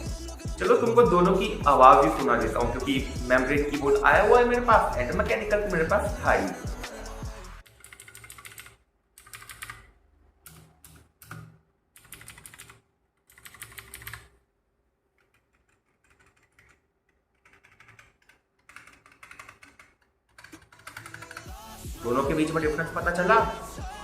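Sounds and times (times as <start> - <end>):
keyboard typing: 0.6 - 14.4, 15.1 - 21.7.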